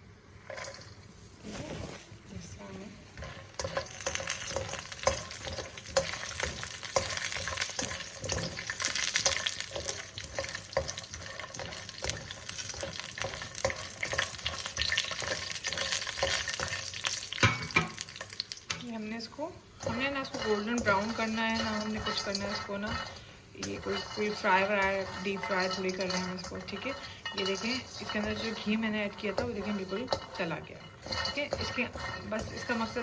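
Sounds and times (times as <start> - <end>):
nuts sizzling in oil: 0.0 - 33.0
spoon knocking against pan: 3.2 - 18.8, 19.8 - 33.0.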